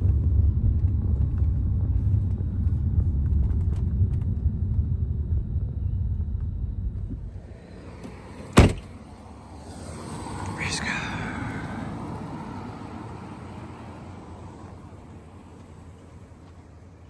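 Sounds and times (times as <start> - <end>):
vehicle driving rumble: 0.0 - 17.0.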